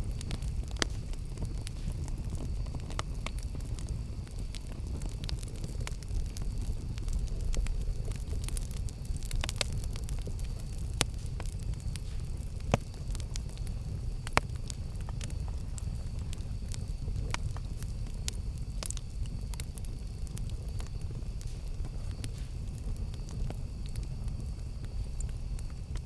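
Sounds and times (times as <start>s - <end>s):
campfire snaps and pops: 0.0s - 26.0s
low rumble of burning: 0.0s - 26.0s.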